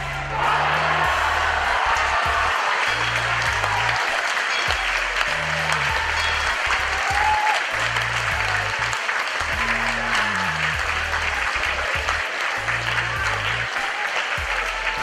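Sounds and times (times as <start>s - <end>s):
background music with bass line: 0.0s - 13.8s, 14.4s - 15.0s
crowd applauding: 0.0s - 15.0s.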